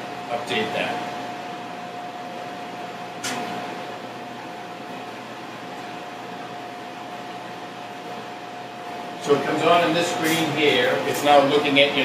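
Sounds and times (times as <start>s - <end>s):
ventilation and machinery hum: 0.0s - 12.0s.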